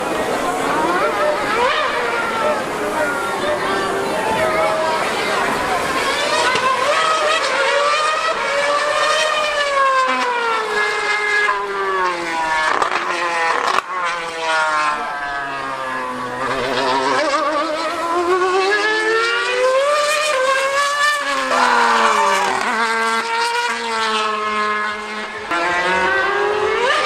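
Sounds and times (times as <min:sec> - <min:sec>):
racing engine revving hard: 0:00.0 - 0:27.0.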